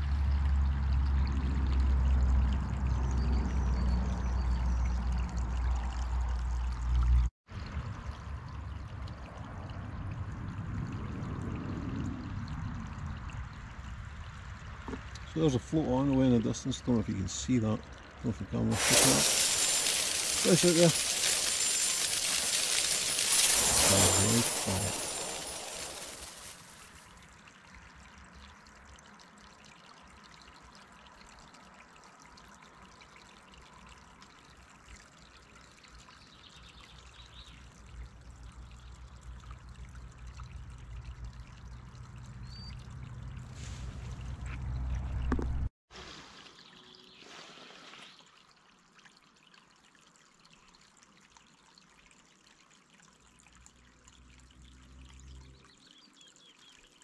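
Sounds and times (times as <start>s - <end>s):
stream trickling over gravel: 0.0s - 57.0s.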